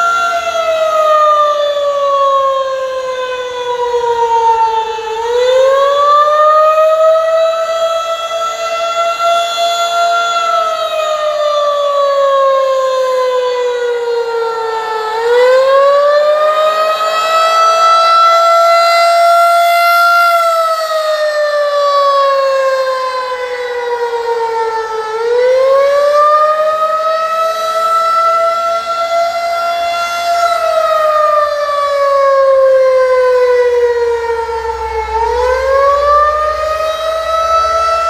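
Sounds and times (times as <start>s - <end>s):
warning siren wailing: 0.0s - 38.0s.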